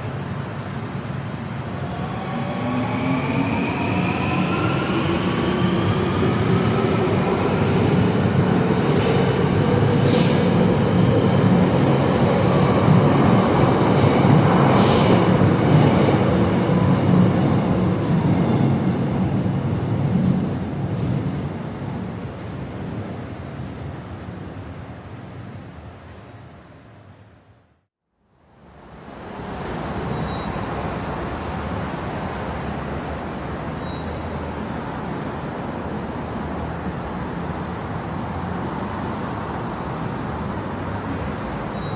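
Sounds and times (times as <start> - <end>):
train rumbling on rails: 0.0 - 27.8, 28.4 - 41.9.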